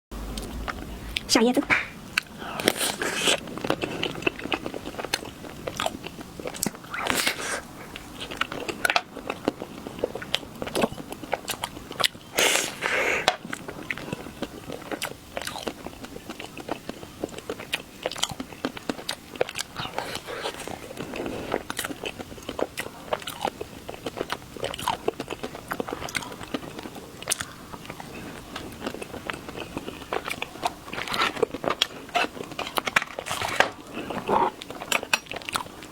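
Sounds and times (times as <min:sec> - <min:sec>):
crackling chewing: 0:00.2 - 0:35.9
crunchy chocolate bites: 0:02.2 - 0:35.9.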